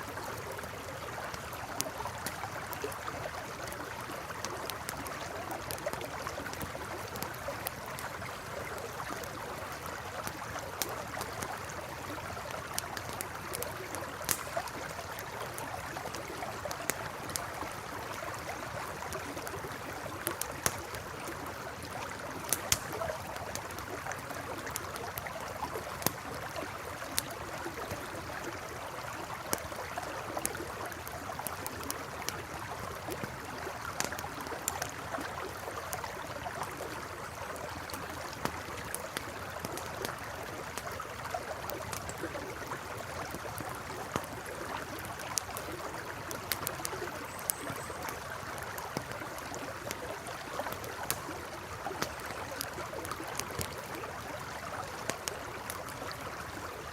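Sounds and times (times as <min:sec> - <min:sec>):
campfire crackling: 0:00.0 - 0:56.9
river flowing: 0:00.0 - 0:56.9.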